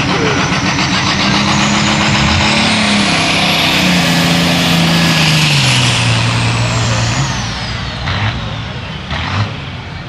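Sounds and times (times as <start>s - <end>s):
diesel tractor engine at full throttle: 0.0s - 10.0s
high turbo whine: 0.0s - 10.0s.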